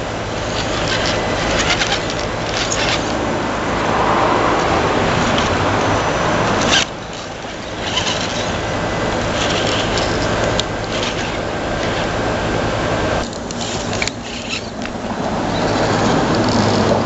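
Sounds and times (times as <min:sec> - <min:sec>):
rc car electric motor whining: 0:00.0 - 0:17.0.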